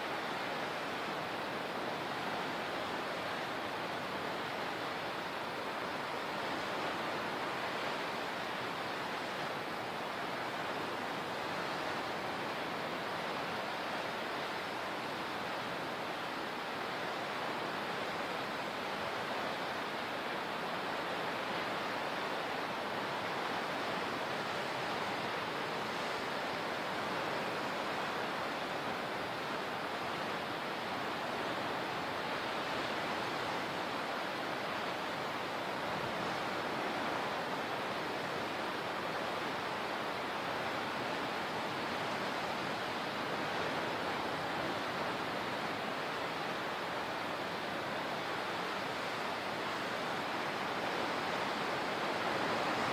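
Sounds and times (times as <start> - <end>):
water rushing: 0.0 - 52.9.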